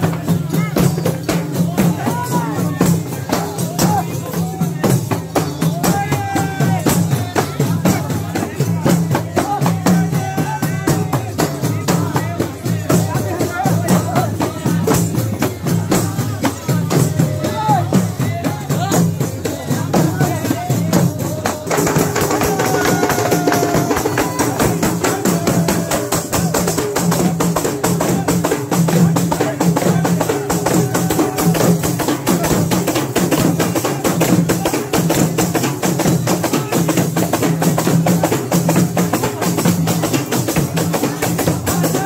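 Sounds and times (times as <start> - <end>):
frame drums beating fast: 0.0 - 42.0.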